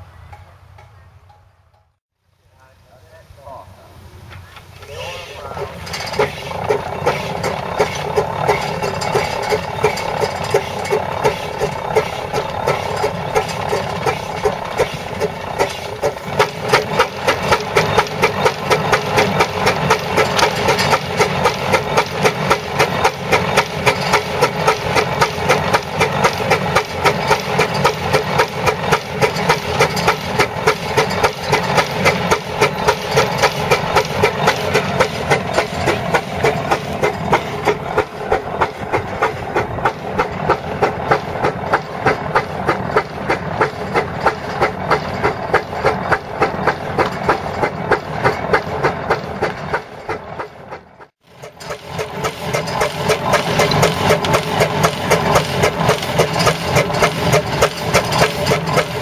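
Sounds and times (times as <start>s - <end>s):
steam engine exhaust beating: 2.6s - 59.0s.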